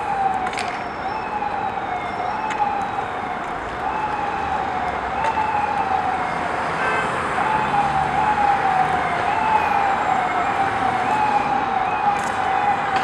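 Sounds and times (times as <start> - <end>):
emergency vehicle siren: 0.0 - 13.0.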